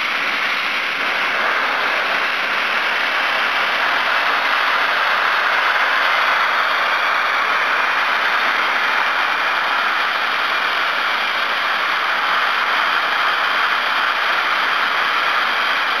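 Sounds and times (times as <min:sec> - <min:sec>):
soda blaster nozzle hissing: 0:00.0 - 0:16.0.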